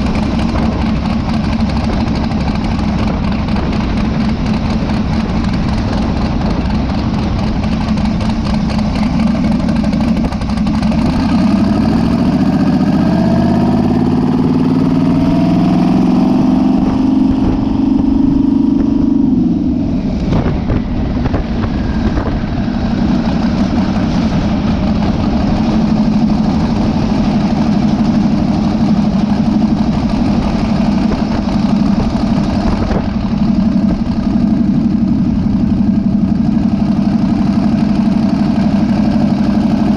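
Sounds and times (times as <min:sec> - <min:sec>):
pickup engine revving: 0:00.0 - 0:39.9.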